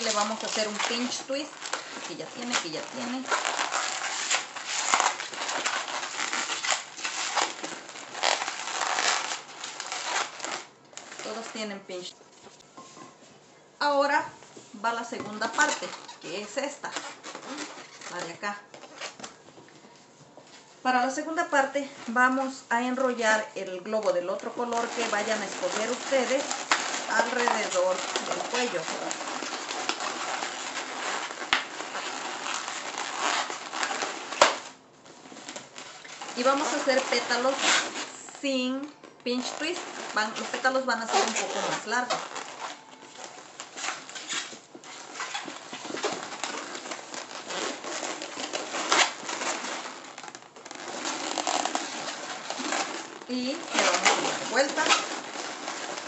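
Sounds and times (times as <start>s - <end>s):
balloons rubbing and crackling: 0.0s - 12.7s, 13.3s - 19.9s, 20.9s - 56.0s.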